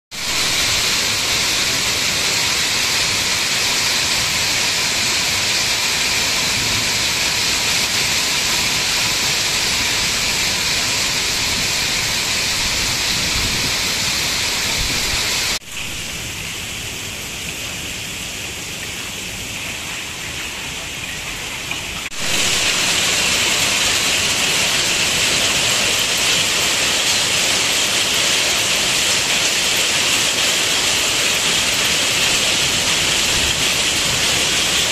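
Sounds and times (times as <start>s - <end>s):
hail and rain pelting: 0.1s - 34.9s.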